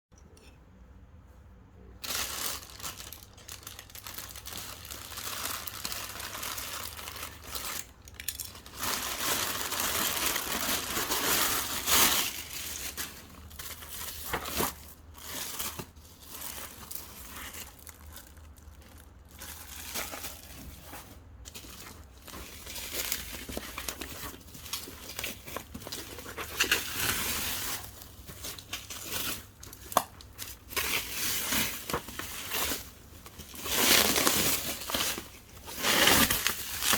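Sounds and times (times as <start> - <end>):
packaging crinkling and tearing: 2.0 - 36.9.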